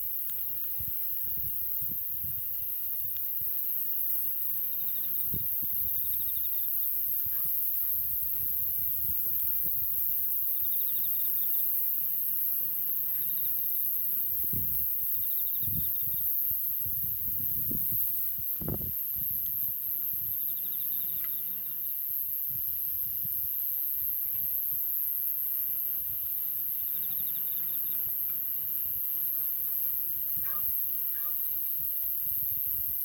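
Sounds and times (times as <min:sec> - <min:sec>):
high-pitched hiss: 0:00.0 - 0:33.0
insects trilling: 0:00.0 - 0:33.0.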